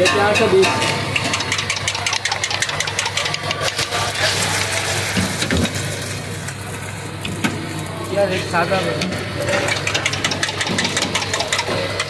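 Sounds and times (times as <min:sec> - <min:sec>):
egg sizzling on griddle: 0:00.0 - 0:12.0.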